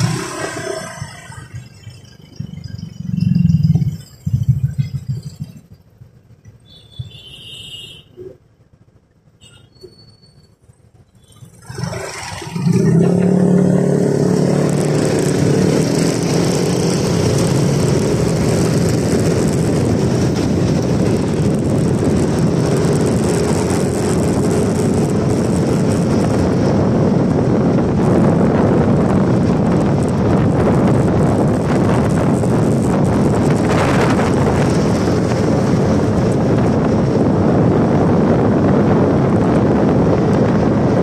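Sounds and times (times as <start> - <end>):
wind rushing over microphone: 0.0 - 5.8, 11.6 - 41.0
motorbike engine drone: 0.0 - 8.1, 9.0 - 41.0.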